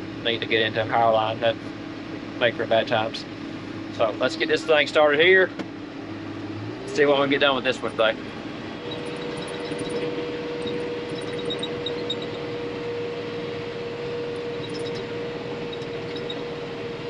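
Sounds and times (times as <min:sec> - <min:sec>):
engine whine: 0:00.0 - 0:17.0
tractor engine droning: 0:00.0 - 0:17.0.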